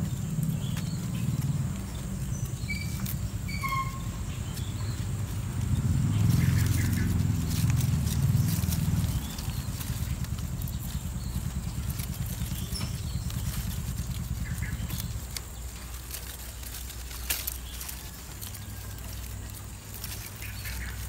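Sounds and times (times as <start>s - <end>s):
low rumble: 0.0s - 21.0s
twigs and wire rustling and clicking: 0.0s - 21.0s.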